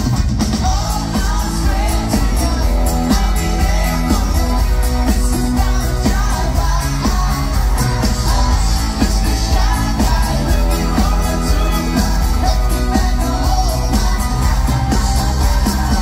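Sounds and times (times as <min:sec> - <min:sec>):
lead vocals singing: 0:00.0 - 0:16.0
live pop-rock band playing: 0:00.0 - 0:16.0.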